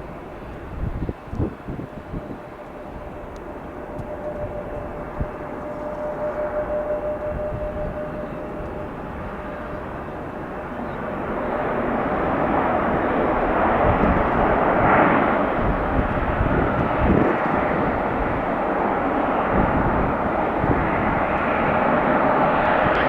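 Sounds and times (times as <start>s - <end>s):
jet engines loud rush: 0.0s - 23.0s.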